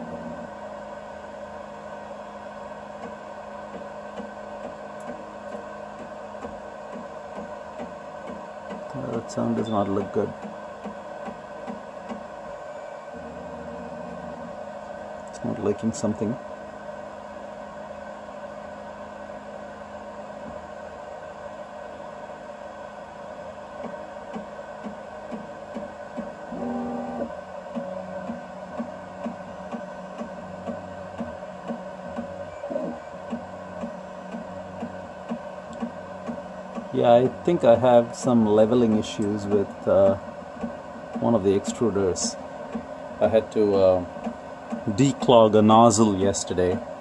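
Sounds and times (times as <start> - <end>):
printer motors and fans humming: 0.0 - 47.0.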